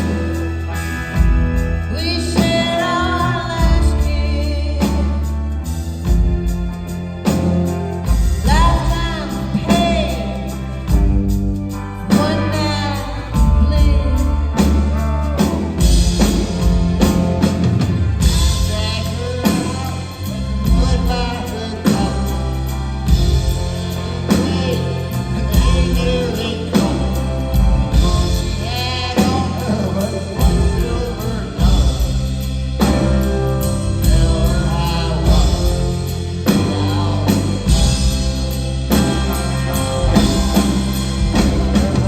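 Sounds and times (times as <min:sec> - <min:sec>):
person singing: 0:00.0 - 0:11.1, 0:11.7 - 0:17.6, 0:18.2 - 0:42.0
rock band playing: 0:00.0 - 0:42.0.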